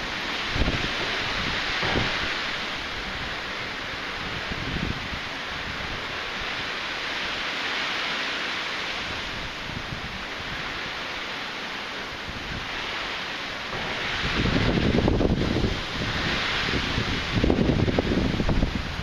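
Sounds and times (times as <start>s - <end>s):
wind gusts buffeting microphone: 0.0s - 7.8s, 8.7s - 19.0s.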